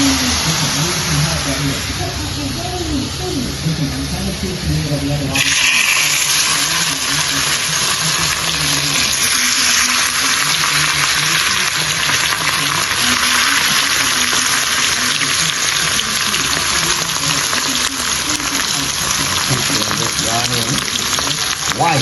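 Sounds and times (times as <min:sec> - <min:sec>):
food sizzling in hot oil: 0:00.0 - 0:02.7, 0:05.3 - 0:22.0.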